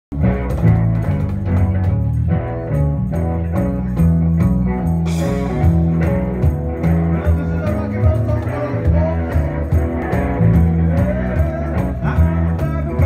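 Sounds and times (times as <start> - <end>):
electric bass guitar: 0.1 - 13.0
electric guitar: 0.1 - 13.0.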